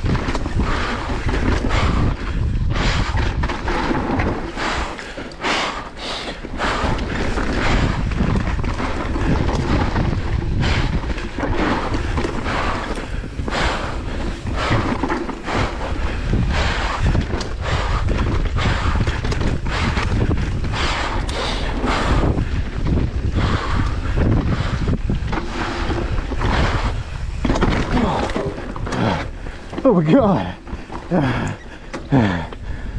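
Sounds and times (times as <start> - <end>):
mountain bike rumble and clatter: 0.0 - 32.9
wind buffeting microphone: 0.0 - 32.9.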